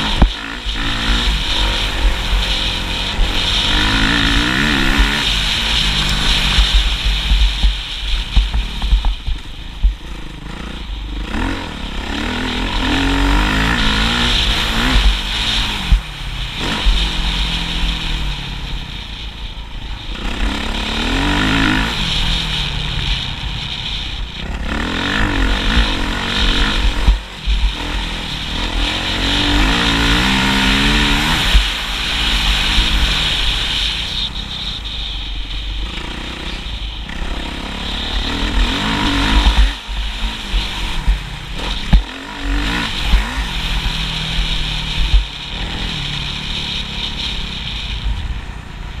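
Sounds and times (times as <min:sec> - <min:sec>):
low rumble: 0:00.0 - 0:49.0
motorcycle engine revving: 0:00.0 - 0:49.0.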